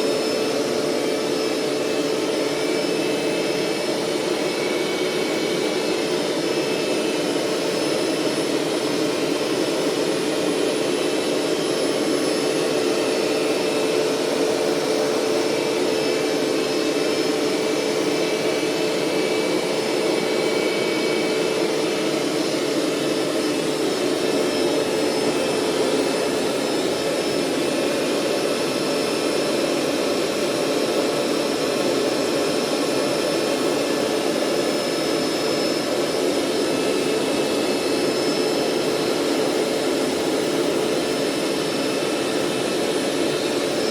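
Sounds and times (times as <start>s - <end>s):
carpet cleaner suction motor whining: 0.0s - 43.9s.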